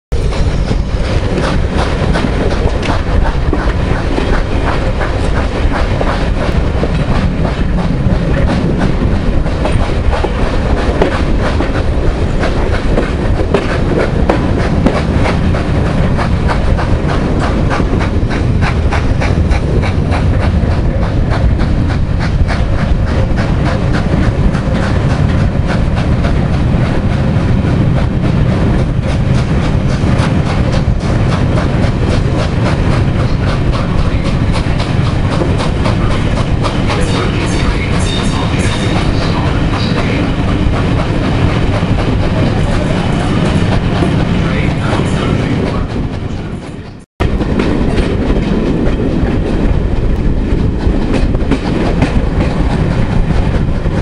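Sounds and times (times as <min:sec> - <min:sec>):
heavy train rumble: 0:00.1 - 0:54.0
train wheels clattering: 0:00.2 - 0:54.0.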